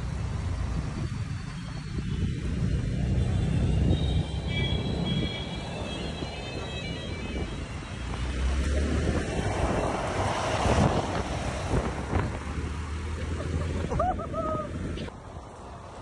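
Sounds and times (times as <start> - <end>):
wind on microphone: 0.4 - 15.1.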